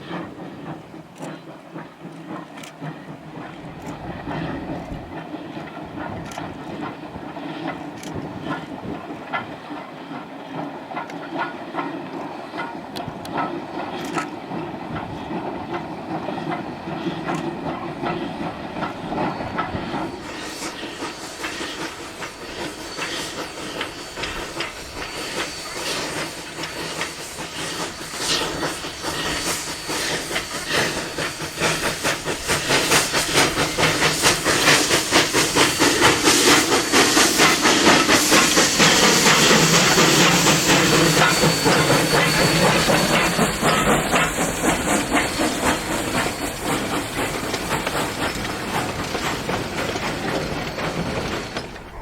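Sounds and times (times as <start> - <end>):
steam hiss: 0.0 - 52.0
steam locomotive exhaust beats: 0.0 - 52.0.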